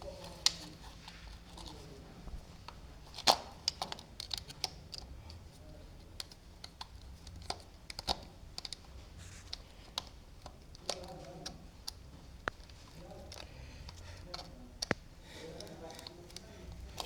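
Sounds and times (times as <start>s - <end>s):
clicks and taps of tools on wires: 2.6s - 17.0s.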